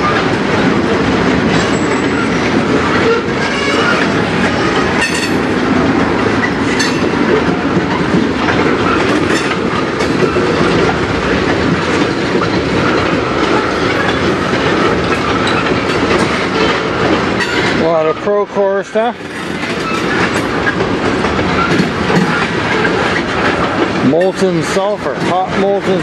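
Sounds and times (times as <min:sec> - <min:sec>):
train clicks and clanks: 0:00.0 - 0:26.0
train wheels rumbling on rail: 0:00.0 - 0:26.0.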